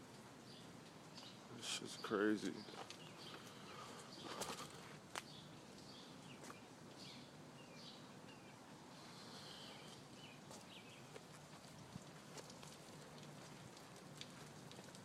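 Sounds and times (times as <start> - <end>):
faint birds chirping: 0.0 - 12.7.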